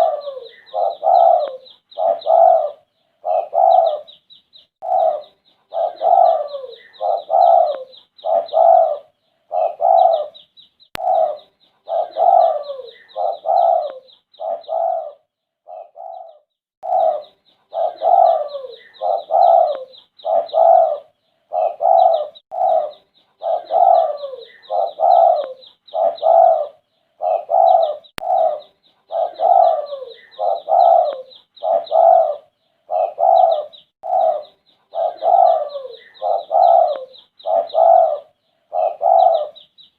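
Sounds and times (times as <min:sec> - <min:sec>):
dove cooing: 0:00.0 - 0:04.2, 0:04.8 - 0:10.4, 0:11.0 - 0:39.7.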